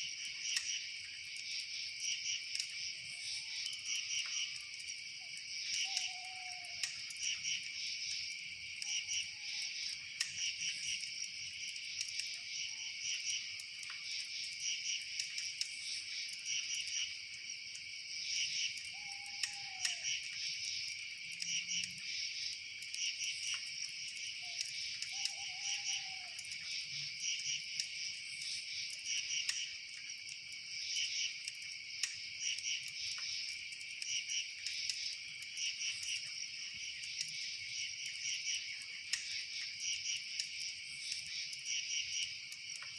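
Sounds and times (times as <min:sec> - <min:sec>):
crickets chirping in trills: 0:00.0 - 0:42.9
light ticks: 0:00.4 - 0:42.9.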